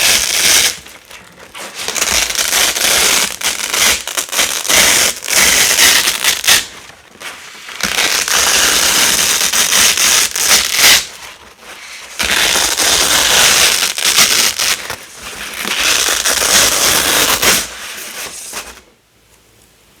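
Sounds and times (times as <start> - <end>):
velcro tape ripping: 0.0 - 18.8.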